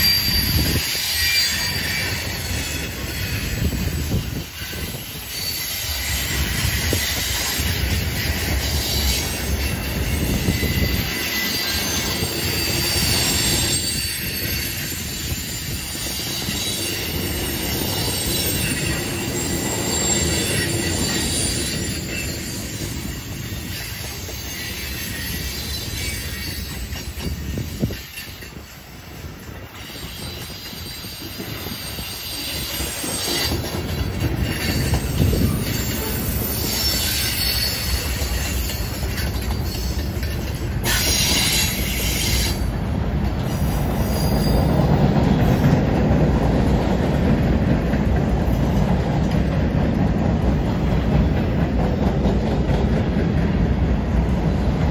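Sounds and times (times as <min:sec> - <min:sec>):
wheels squealing against rail: 0:00.0 - 0:54.9.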